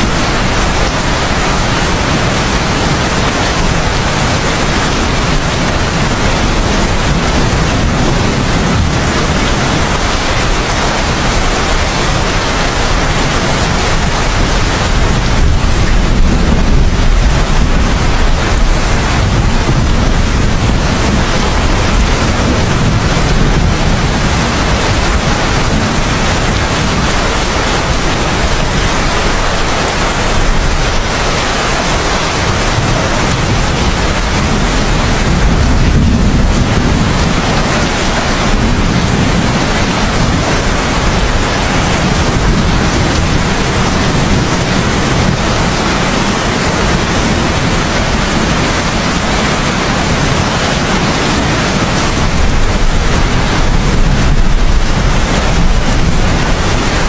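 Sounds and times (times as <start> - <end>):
distant thunder rumble: 0.0 - 57.0
heavy rain: 0.0 - 57.0.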